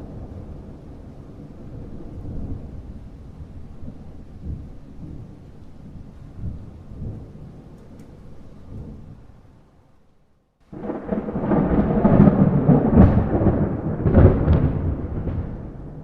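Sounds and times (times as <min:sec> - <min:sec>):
thunder rumbling: 0:00.0 - 0:09.6, 0:10.7 - 0:16.0
rain: 0:00.0 - 0:16.0.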